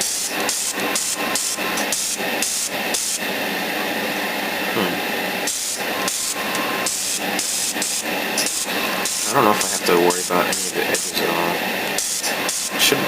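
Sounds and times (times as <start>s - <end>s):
airbrush spraying hiss: 0.0s - 13.0s.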